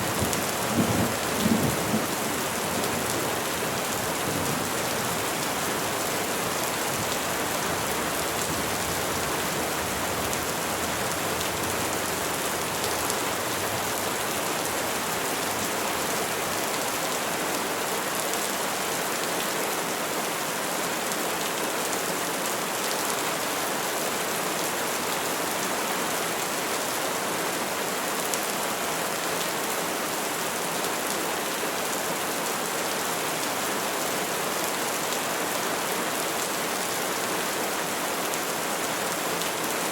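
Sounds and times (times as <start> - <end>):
rain falling on trees: 0.0 - 39.9.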